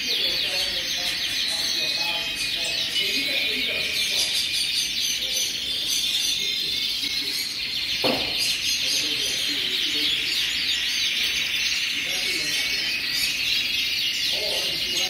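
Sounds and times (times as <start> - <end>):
canaries singing in chorus: 0.0 - 15.0.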